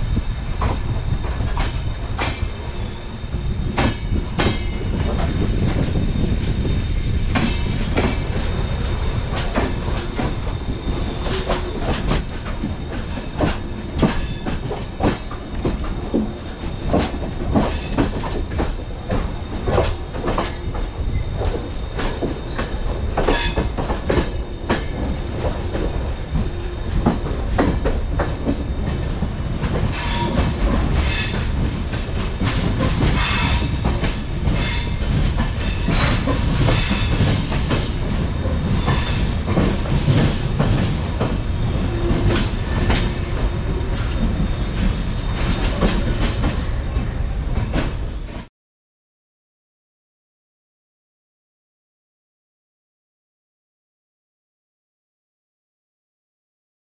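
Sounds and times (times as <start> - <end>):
train coaches rumbling: 0.0 - 48.5.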